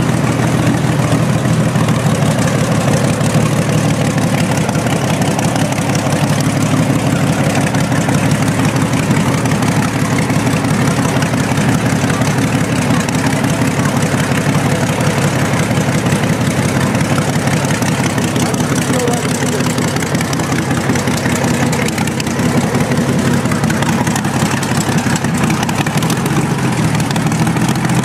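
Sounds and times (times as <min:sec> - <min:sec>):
aero engine running: 0:00.0 - 0:28.0.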